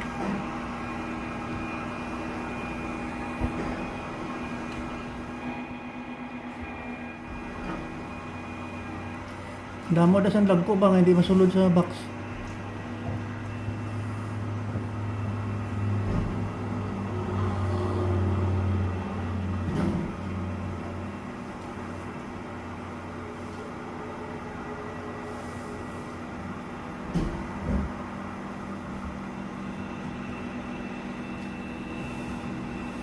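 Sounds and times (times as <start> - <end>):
garbage truck engine running: 0.0 - 33.0.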